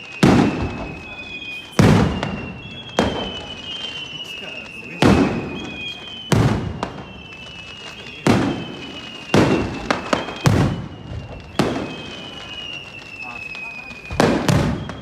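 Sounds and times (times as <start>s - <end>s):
fireworks bangs: 0.0s - 15.0s
fireworks pops and crackles: 0.0s - 15.0s.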